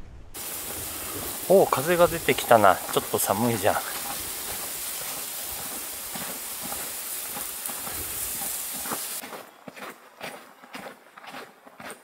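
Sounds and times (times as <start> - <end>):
footsteps in snow: 0.4 - 12.0.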